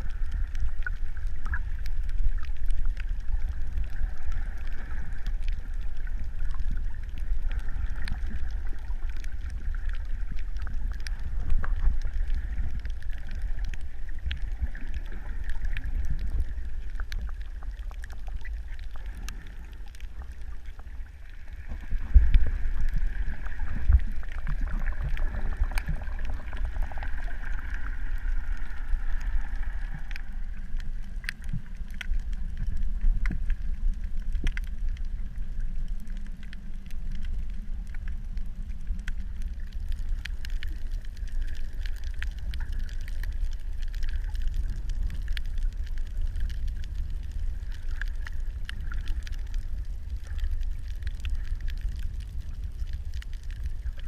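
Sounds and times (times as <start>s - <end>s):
underwater rumble of water: 0.0s - 54.0s.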